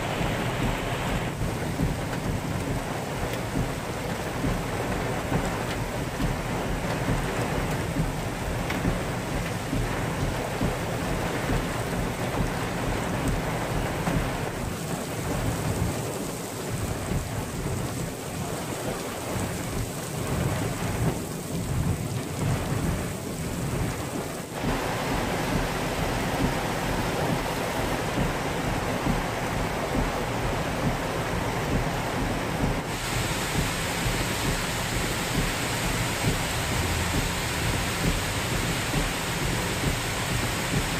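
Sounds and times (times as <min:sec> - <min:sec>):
heavy rain: 0:00.0 - 0:40.9
rushing floodwater: 0:00.0 - 0:40.9.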